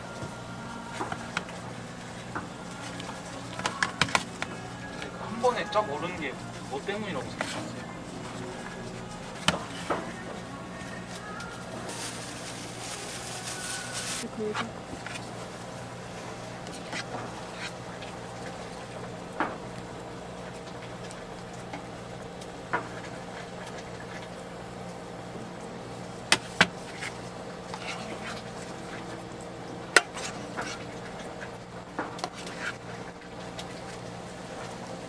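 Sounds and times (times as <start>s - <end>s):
kitchen machinery humming: 0.0s - 35.0s.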